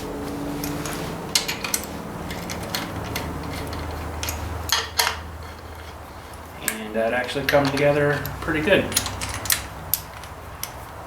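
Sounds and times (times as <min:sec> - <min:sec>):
metallic clicks of hand tools: 0:00.6 - 0:11.0.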